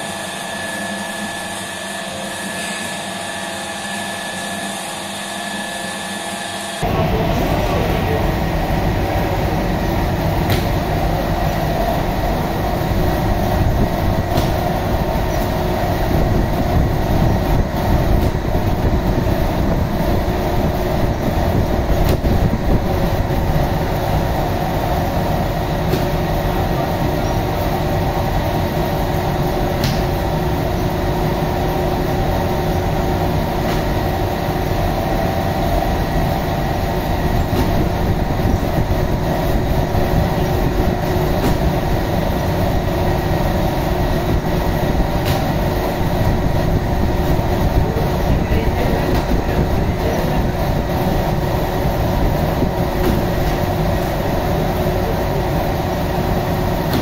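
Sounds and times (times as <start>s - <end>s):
dough machine mechanical drone: 0.0s - 57.0s.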